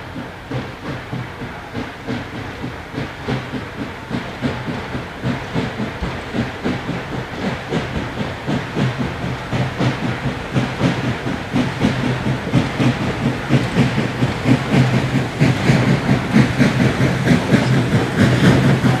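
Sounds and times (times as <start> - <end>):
steam hissing: 0.0 - 19.0
steam locomotive exhaust chuffs: 0.0 - 19.0.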